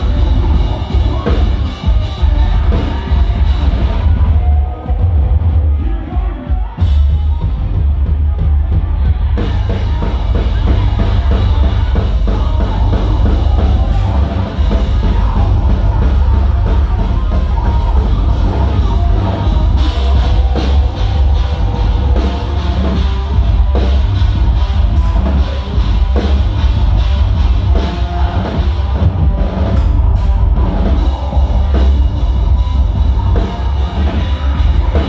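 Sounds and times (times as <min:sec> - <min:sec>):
bass guitar: 0:00.0 - 0:35.0
distorted electric guitars: 0:00.0 - 0:35.0
drum kit: 0:00.0 - 0:35.0
pounding bass drum: 0:00.0 - 0:35.0.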